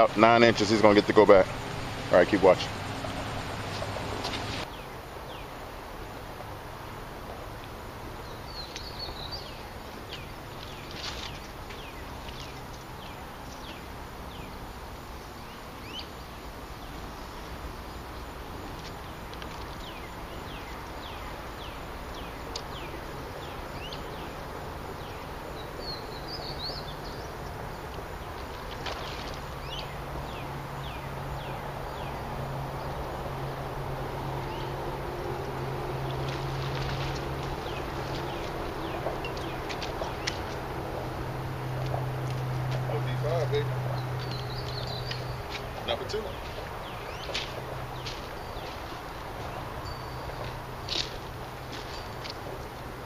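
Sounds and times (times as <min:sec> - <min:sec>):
steady background hiss: 0:00.0 - 0:53.0.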